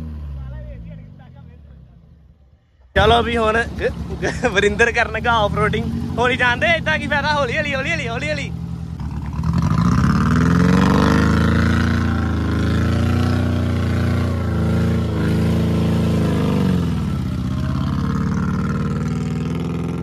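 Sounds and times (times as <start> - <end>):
car engine revving: 0.0 - 1.8, 2.9 - 20.0.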